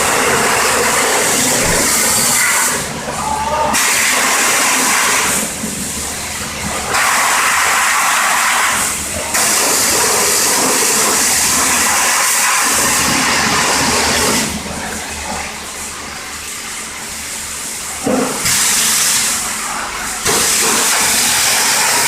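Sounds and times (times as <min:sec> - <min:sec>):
high-pressure water spray hissing: 0:00.0 - 0:22.0.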